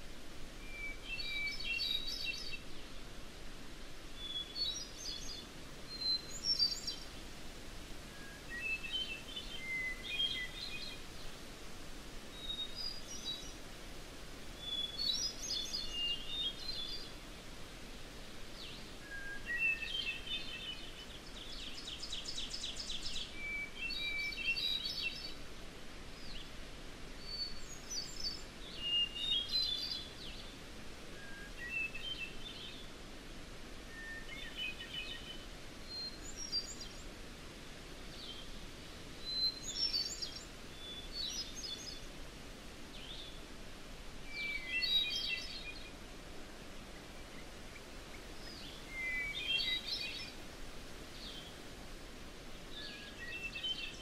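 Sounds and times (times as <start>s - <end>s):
songbird singing: 0.0s - 3.3s, 3.9s - 54.0s
faint outdoor hiss: 0.0s - 54.0s.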